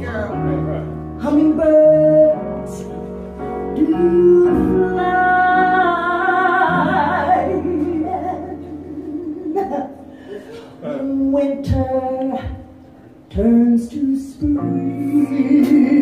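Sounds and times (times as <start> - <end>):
keyboard: 0.0 - 16.0
woman singing jazz ballad: 1.2 - 10.0, 10.8 - 16.0.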